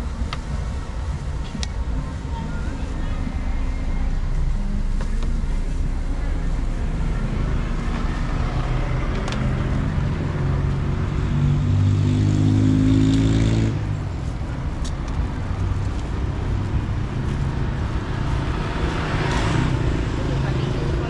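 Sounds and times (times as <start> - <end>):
low traffic rumble: 0.0 - 21.0
vehicle engine running: 0.0 - 21.0.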